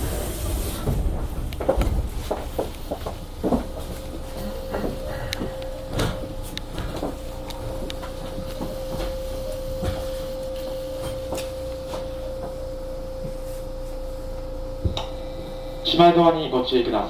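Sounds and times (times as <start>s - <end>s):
train hum: 0.0s - 17.0s.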